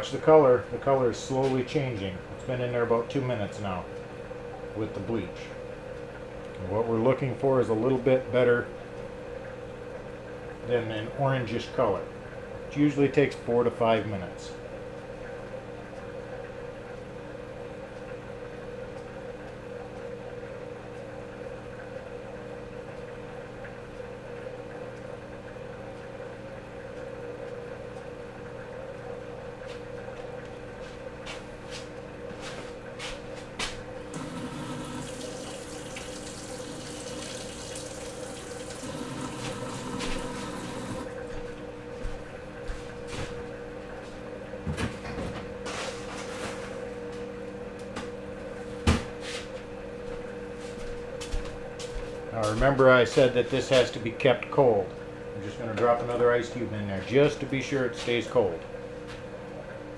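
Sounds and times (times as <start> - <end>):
air pump humming: 0.0 - 59.9.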